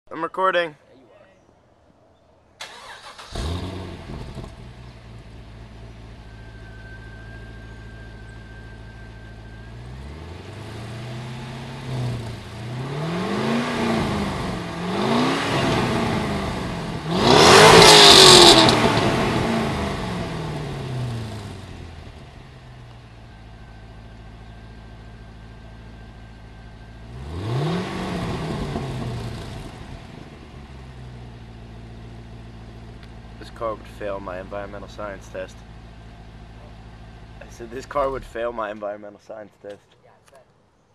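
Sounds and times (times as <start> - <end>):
car engine revving: 2.6 - 38.6
car engine starting: 2.6 - 38.9
car engine idling: 2.6 - 39.0.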